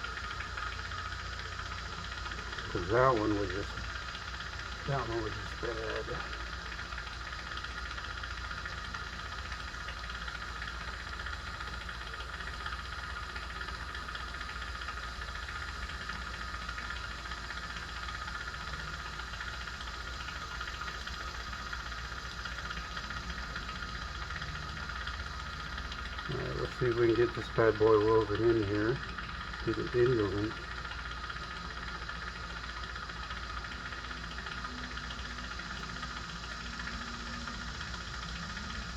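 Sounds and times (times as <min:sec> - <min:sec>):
mechanical hum with hiss: 0:00.0 - 0:38.9.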